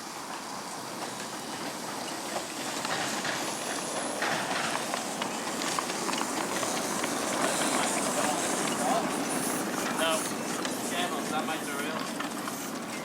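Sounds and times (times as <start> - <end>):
miniature train running on track: 0.0 - 13.0.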